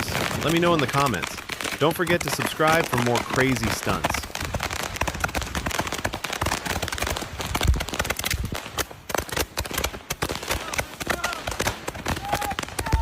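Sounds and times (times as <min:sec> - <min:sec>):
fireworks and firecrackers popping: 0:00.0 - 0:13.0.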